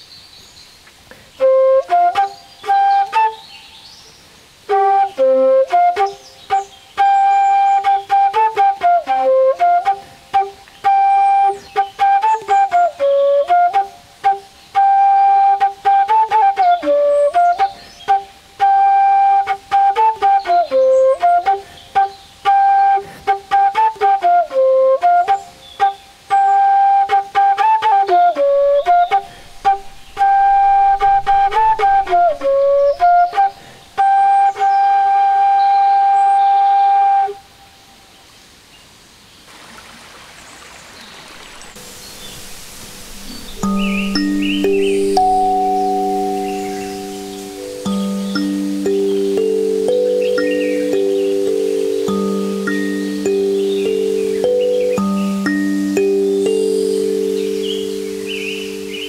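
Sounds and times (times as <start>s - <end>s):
bamboo flute slow melody: 1.1s - 38.1s, 41.6s - 59.0s.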